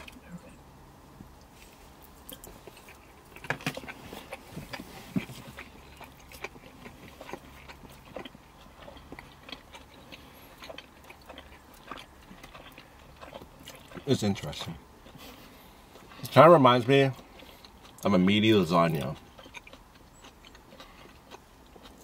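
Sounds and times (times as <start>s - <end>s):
people chewing food: 0.0s - 22.0s.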